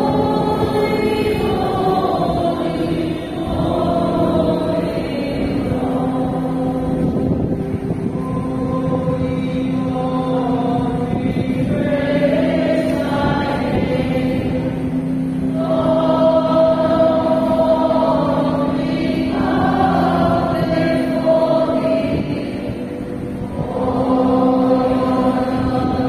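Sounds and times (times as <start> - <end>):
voices singing a hymn: 0.0 - 26.0.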